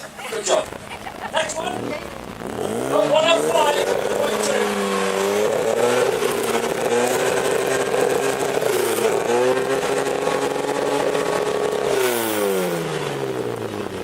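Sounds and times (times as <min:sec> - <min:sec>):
car engine revving loud exhaust: 0:00.0 - 0:14.0.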